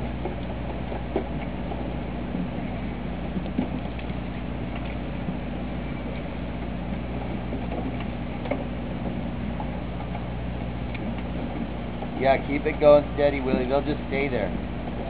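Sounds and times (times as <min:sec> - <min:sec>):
boat machinery humming: 0:00.0 - 0:15.0.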